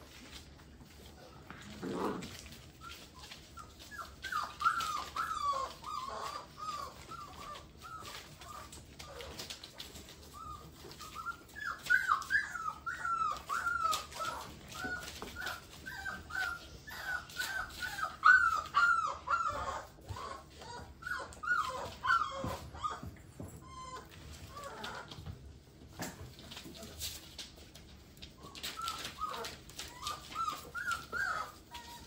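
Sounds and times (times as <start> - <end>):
puppies whining and yipping: 0.0 - 32.0.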